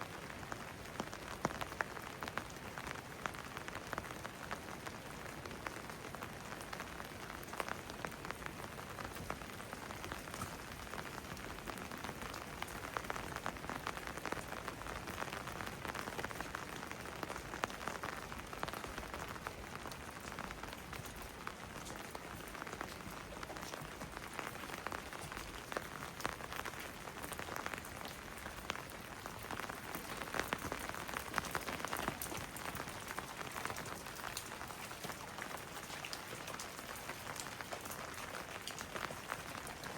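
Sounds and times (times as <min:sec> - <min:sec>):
raindrops ticking close by: 0:00.0 - 0:39.9
steady rain falling: 0:00.0 - 0:39.9.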